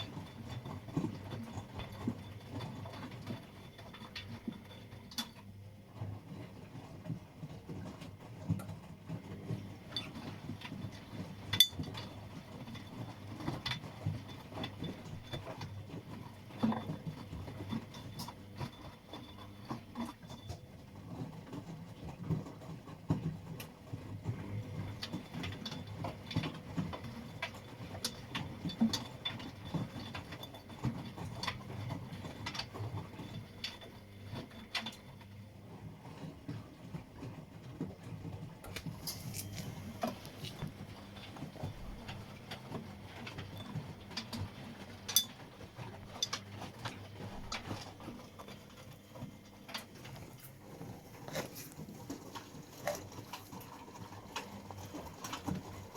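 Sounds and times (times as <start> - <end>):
washing machine hum: 0.0 - 55.9
irregular clicks and light knocks: 7.0 - 35.5, 36.2 - 55.9.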